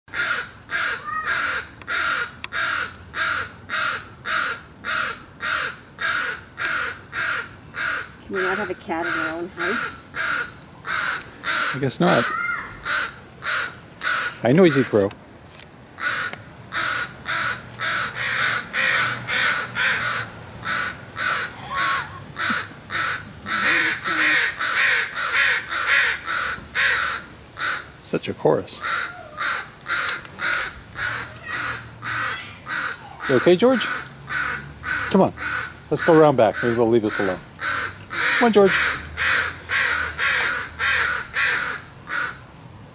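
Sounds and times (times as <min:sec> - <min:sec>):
crow cawing: 0:00.1 - 0:15.0, 0:16.0 - 0:28.0, 0:28.8 - 0:42.4.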